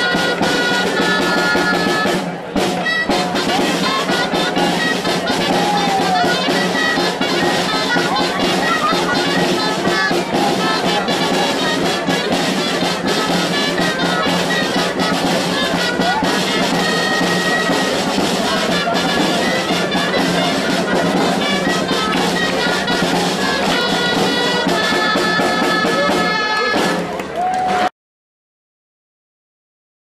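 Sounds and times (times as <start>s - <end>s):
steady drum beat: 0.0s - 27.8s
festive brass horns: 0.0s - 27.9s.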